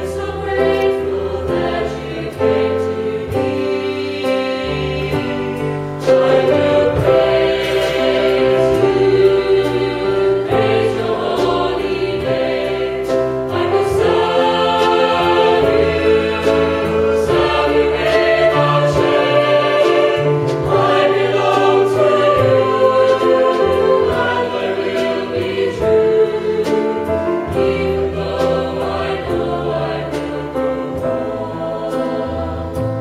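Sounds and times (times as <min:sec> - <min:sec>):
choir singing worship song: 0:00.0 - 0:33.0.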